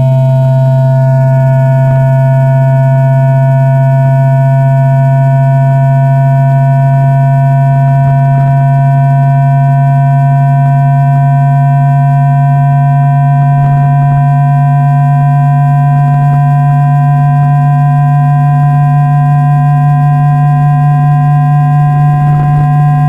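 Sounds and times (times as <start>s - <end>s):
train inverter electrical whine: 0.0s - 23.0s.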